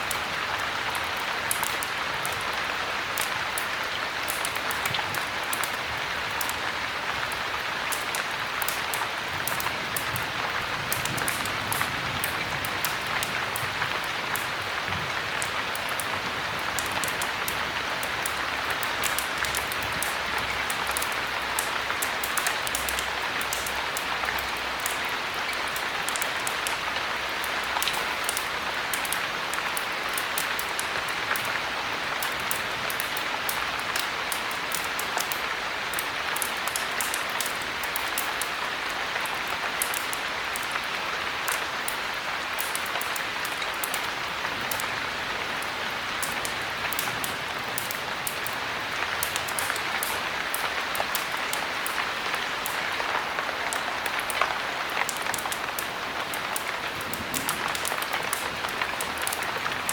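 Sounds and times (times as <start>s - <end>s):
fire crackling in a fireplace: 0.0s - 59.9s
heavy rain falling: 0.0s - 59.9s.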